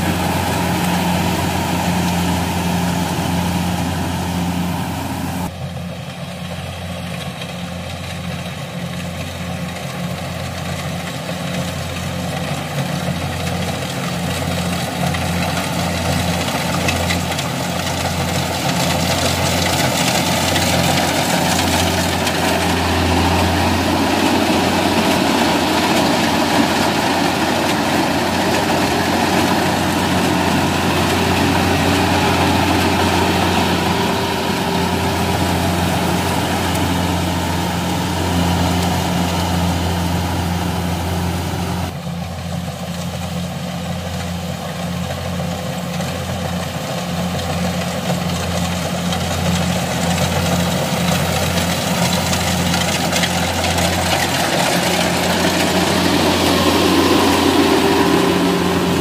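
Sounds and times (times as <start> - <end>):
diesel engine hum: 0.0 - 59.0
harvester threshing machine noise: 0.0 - 59.0.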